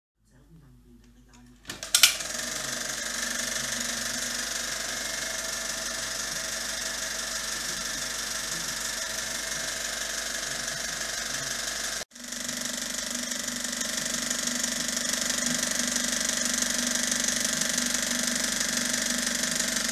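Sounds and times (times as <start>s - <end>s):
projector mechanism running: 1.6s - 19.9s.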